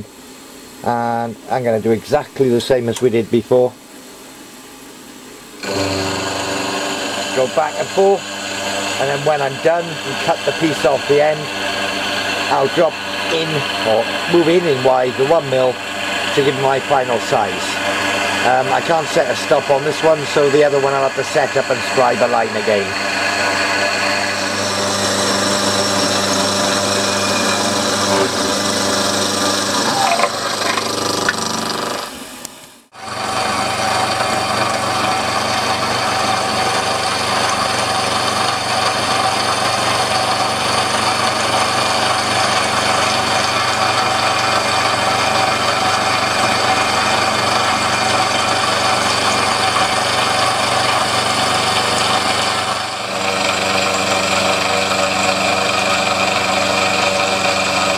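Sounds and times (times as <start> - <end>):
milling machine cutting metal: 5.6 - 57.9.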